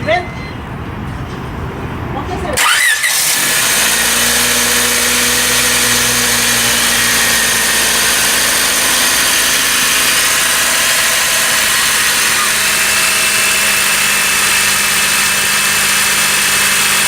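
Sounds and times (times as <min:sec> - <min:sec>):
car engine idling: 0:02.6 - 0:17.0.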